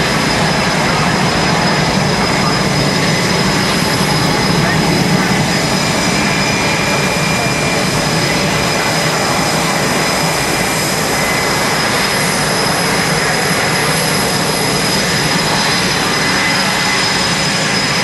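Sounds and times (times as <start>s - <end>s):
jet engine roaring and whining: 0.0s - 18.0s.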